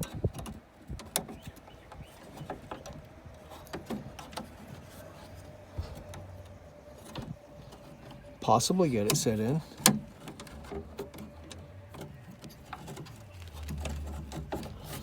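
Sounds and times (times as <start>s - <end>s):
light clicks of plastic and metal: 0.0s - 15.0s.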